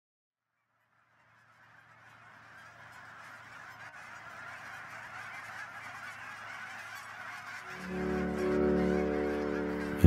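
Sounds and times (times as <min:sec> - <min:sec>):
geese honking: 0:00.6 - 0:10.0.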